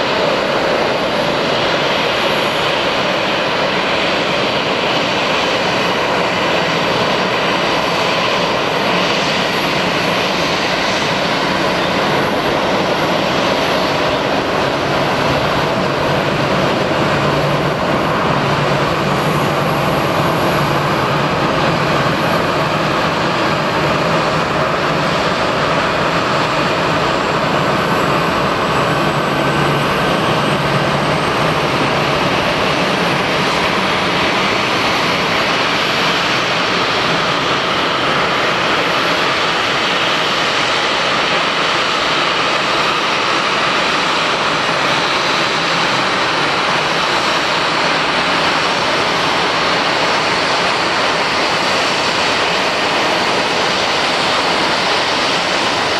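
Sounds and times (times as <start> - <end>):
jet engines idling: 0.0 - 55.9.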